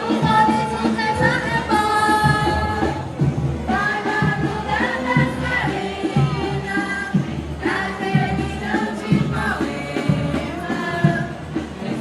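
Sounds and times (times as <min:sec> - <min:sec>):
chorus singing: 0:00.0 - 0:12.0.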